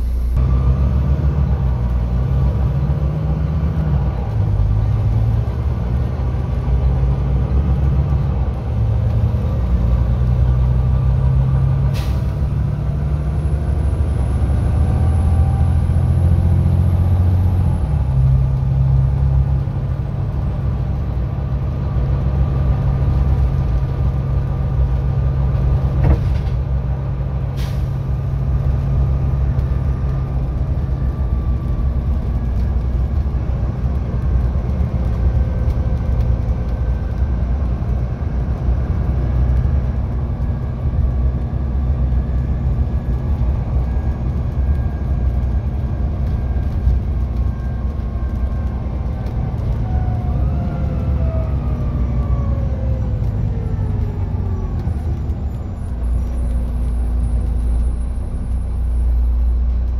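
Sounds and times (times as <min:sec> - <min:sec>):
bus engine droning: 0:00.0 - 0:59.9.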